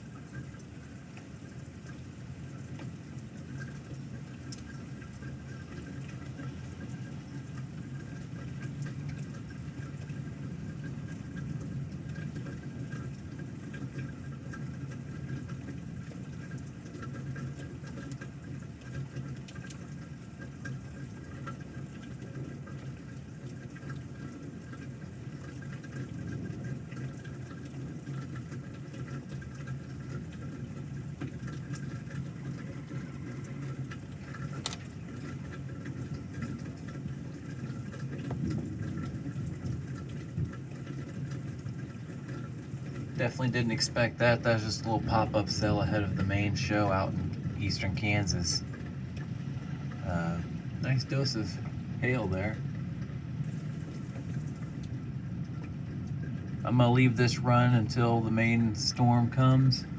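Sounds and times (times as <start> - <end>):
steady rain: 0.0 - 59.9
water running: 0.0 - 59.9.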